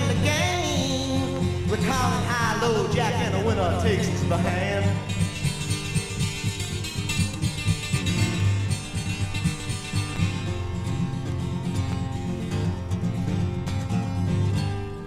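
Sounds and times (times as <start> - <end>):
instrumental folk-rock guitar music: 0.0 - 15.0.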